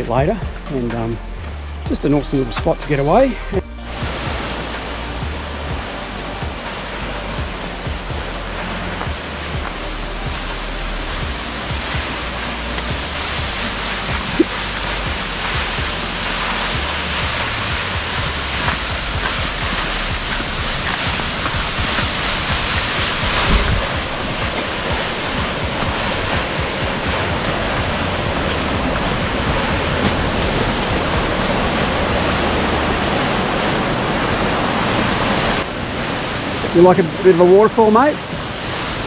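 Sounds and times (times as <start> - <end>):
water crashing onto rocks: 3.9 - 39.0
waterfall roaring: 3.9 - 39.0.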